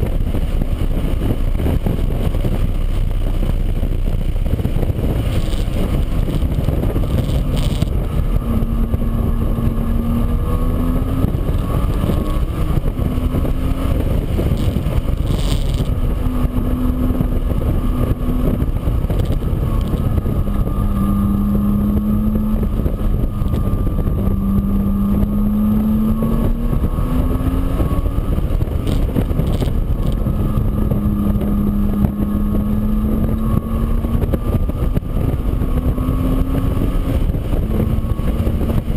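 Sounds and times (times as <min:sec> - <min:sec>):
engine running: 0:00.0 - 0:38.9
wind rumble: 0:00.0 - 0:38.9.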